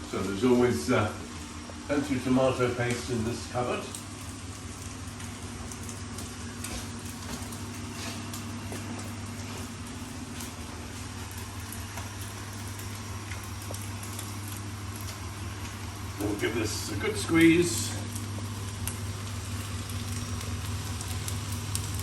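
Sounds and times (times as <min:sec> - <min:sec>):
food sizzling in a pot: 0:03.5 - 0:22.0.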